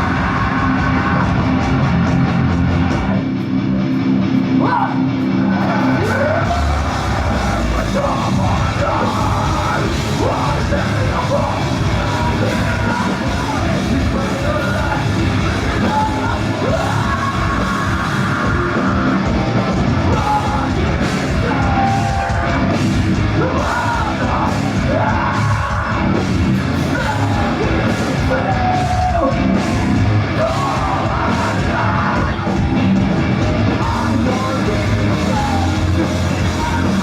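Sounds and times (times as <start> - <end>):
vocalist yelling and singing: 0.0 - 2.2, 4.5 - 37.0
heavy rock band playing live: 0.0 - 37.0.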